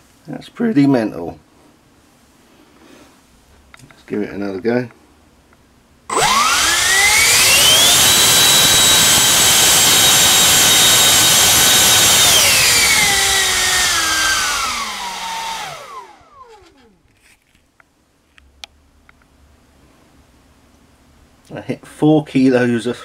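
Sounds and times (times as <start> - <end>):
electric ducted fan whine: 0.0 - 23.0.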